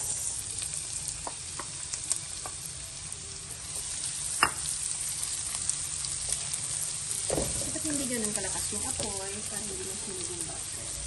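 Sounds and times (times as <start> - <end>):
onions sizzling in butter: 0.0 - 11.0.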